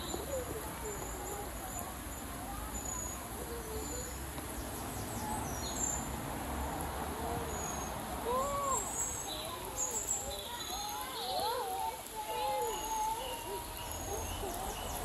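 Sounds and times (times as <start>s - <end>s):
woodland stream hissing: 0.0s - 15.0s.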